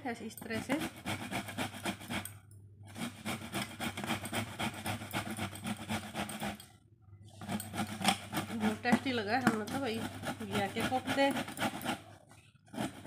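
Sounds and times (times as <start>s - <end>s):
gourd grated on metal grater: 0.1s - 6.7s, 7.4s - 13.0s.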